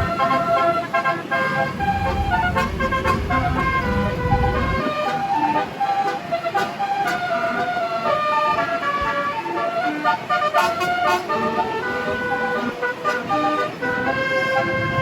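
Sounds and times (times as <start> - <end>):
multi-tone bus air horn tune: 0.0 - 15.0.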